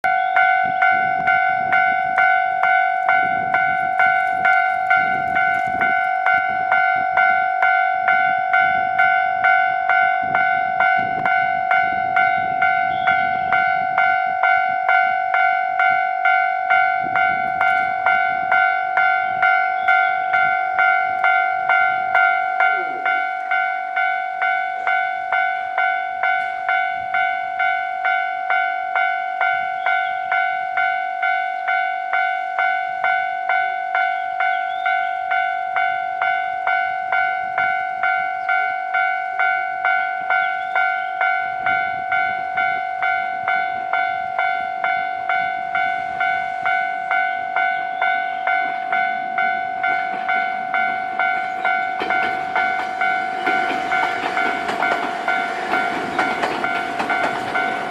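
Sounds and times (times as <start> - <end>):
level-crossing warning bell: 0.0 - 57.9
approaching train rumble: 0.1 - 28.2, 38.4 - 57.9.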